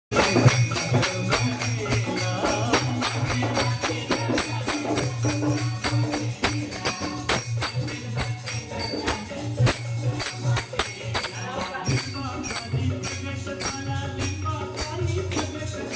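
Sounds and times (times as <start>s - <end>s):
fast percussion beat: 0.1s - 15.9s
metallic jingling: 0.2s - 15.9s.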